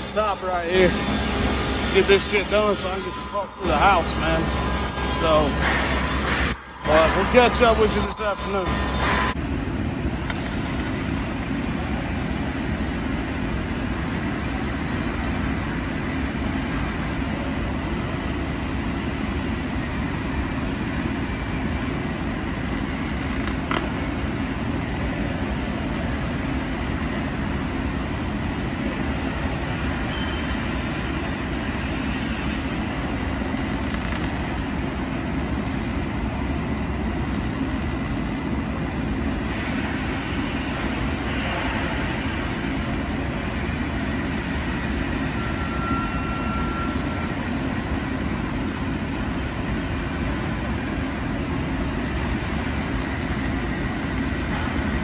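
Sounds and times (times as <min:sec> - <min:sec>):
welding arc sizzling: 0:00.0 - 0:55.0.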